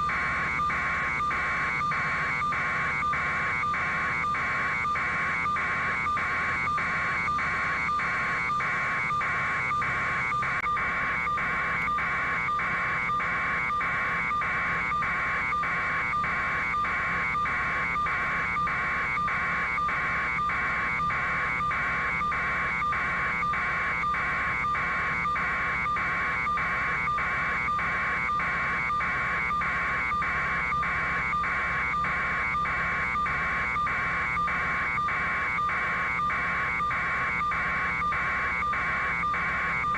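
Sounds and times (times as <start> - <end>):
pulsing electronic warning buzzer: 0.0 - 39.9.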